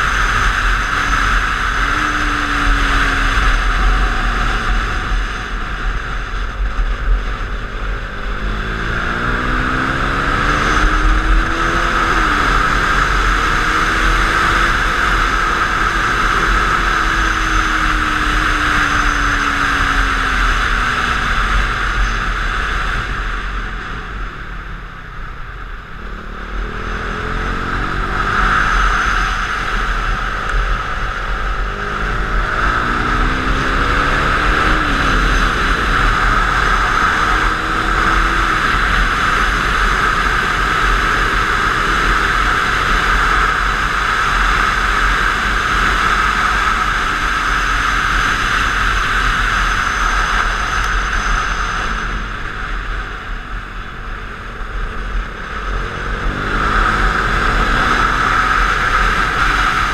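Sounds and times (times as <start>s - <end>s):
heavy wind noise on microphone: 0.0s - 59.9s
motorcycle engine: 0.0s - 59.9s.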